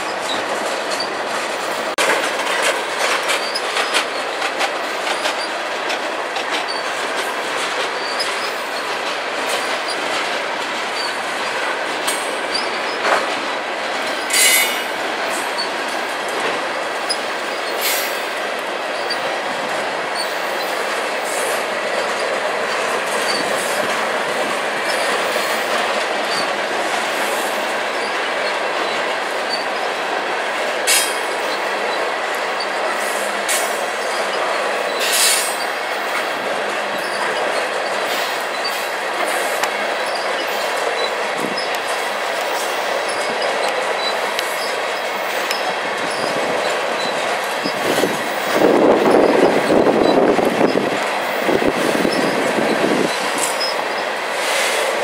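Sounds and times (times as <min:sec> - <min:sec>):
high wheel squeals: 0:00.0 - 0:13.3, 0:14.0 - 0:30.0, 0:30.8 - 0:55.0
freight train rumbling past: 0:00.0 - 0:55.0
wheels clicking over rail joints: 0:00.0 - 0:55.0.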